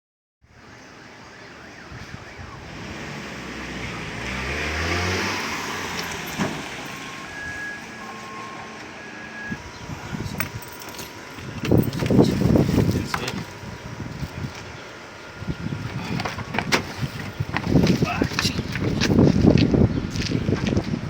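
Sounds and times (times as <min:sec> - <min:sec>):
motor vehicle passing: 0:01.9 - 0:21.0.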